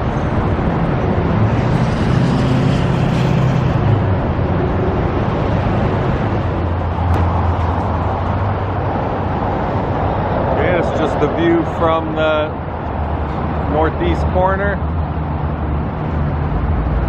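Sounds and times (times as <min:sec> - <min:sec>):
road noise: 0:00.0 - 0:17.0
vehicle engine hum: 0:00.0 - 0:17.0.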